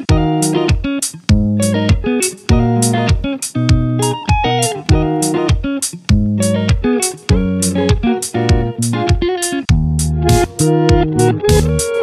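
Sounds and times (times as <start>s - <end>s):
plucked guitar over a beat: 0.0s - 12.0s.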